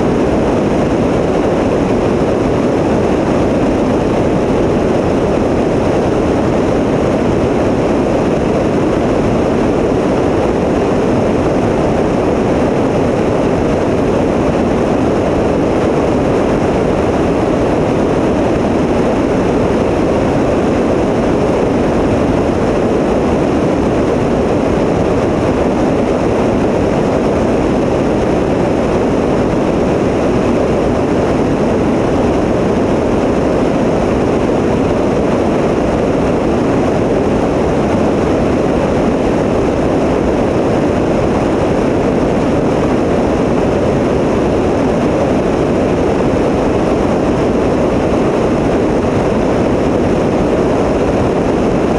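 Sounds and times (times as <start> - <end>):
light aircraft engine and propeller: 0.0 - 51.9.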